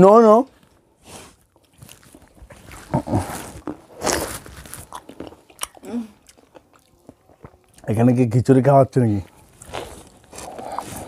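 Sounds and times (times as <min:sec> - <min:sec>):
grapes being bitten and chewed: 0:00.6 - 0:08.0, 0:09.2 - 0:11.0.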